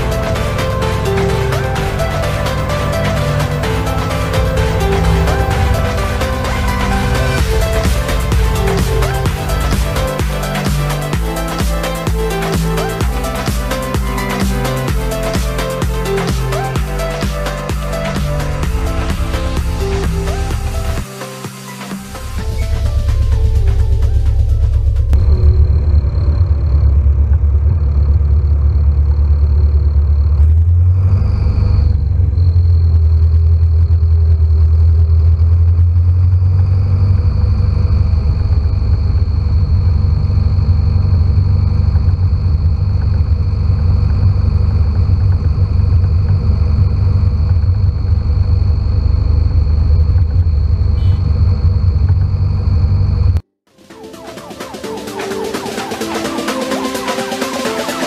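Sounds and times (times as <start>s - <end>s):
tractor diesel engine running: 0.0s - 21.0s, 22.2s - 53.4s.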